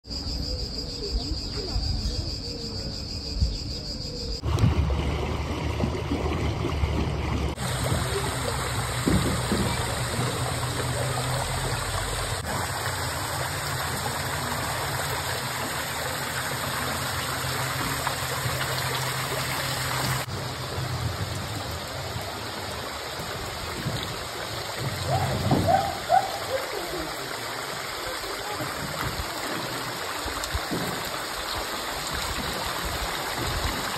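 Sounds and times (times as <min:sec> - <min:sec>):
water trickling and splashing: 0:04.4 - 0:33.9.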